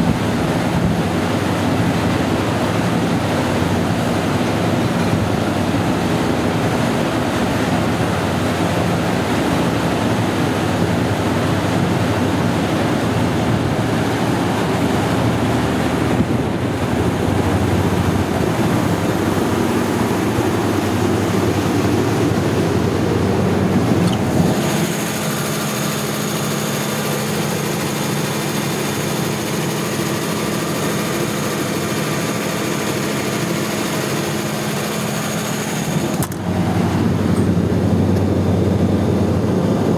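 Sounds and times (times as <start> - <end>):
diesel generator running: 0.0 - 39.9
steady hum: 0.0 - 39.9.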